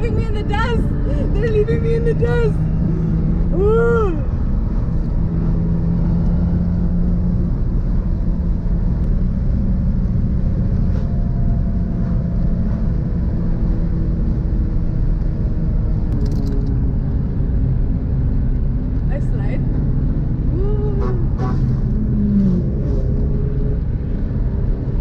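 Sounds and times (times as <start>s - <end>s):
car engine under load: 0.0s - 25.0s
road and tyre rumble: 0.0s - 25.0s.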